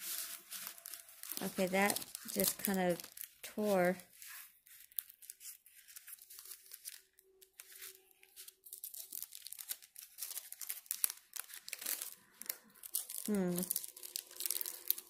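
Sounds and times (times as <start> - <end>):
plastic film peeling and crinkling: 0.0 - 15.0.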